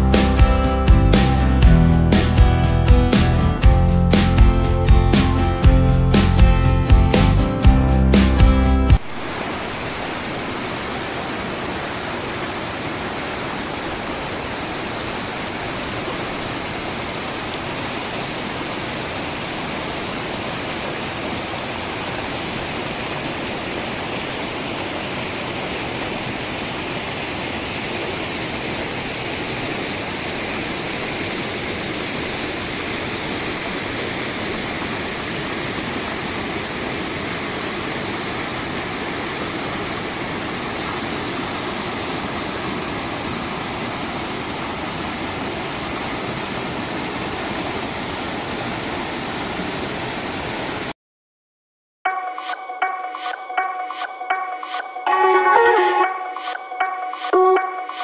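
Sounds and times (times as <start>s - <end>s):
waterfall rushing: 0.0s - 50.9s, 53.2s - 58.0s.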